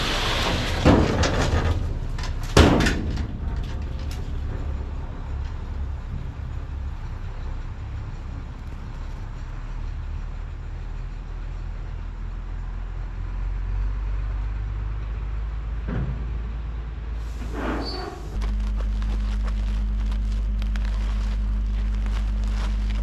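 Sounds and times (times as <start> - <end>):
diesel truck engine rumbling: 0.0 - 23.0.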